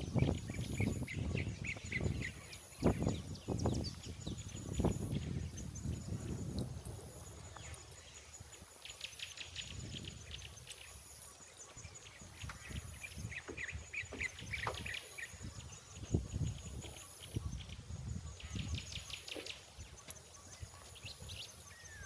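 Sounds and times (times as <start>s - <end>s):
low outdoor background noise: 0.0s - 22.0s
wild birds chirping: 0.0s - 22.0s.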